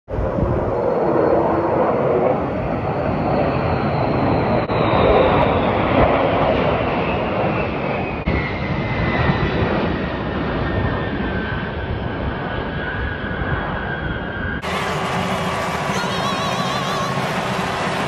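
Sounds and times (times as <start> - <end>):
jet engines roaring overhead: 0.1 - 18.0.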